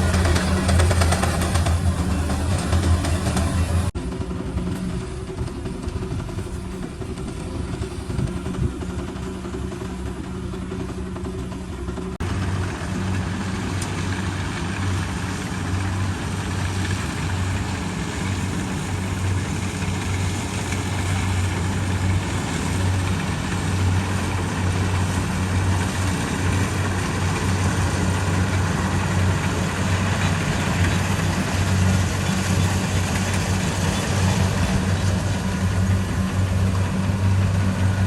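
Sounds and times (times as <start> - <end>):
combine harvester engine running: 0.0 - 38.0.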